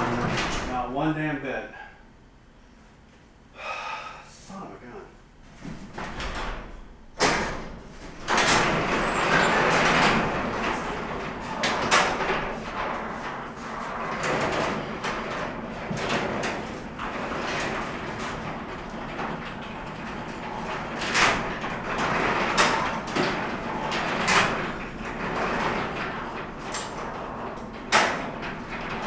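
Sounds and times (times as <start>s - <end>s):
garage door rattling on tracks: 0.0s - 1.0s, 5.5s - 29.0s.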